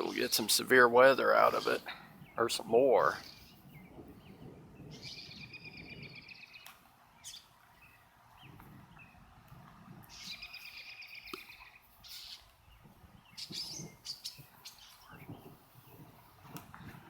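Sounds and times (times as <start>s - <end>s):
songbirds calling: 0.0s - 17.0s.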